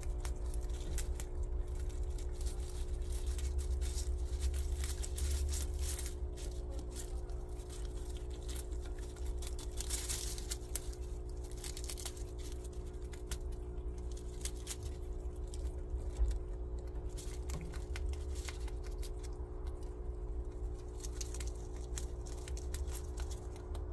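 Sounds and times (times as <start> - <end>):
animal chewing grass: 0.0 - 23.9
low hum: 0.0 - 23.9.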